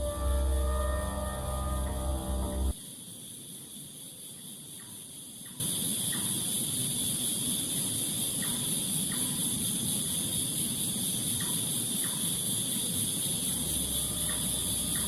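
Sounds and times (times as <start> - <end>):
crickets trilling: 0.0 - 15.0
low background hiss: 0.0 - 15.0.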